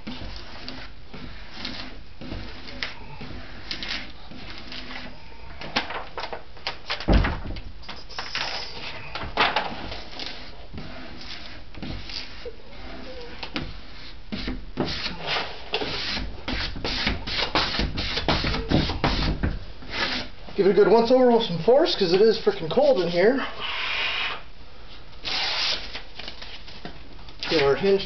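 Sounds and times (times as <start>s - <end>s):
vinyl decal rustling and scraping: 0.0s - 23.7s, 24.8s - 28.0s.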